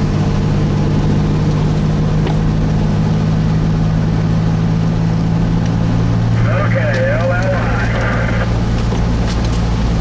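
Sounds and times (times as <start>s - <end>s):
road noise: 0.0s - 10.0s
vehicle engine hum: 0.0s - 10.0s.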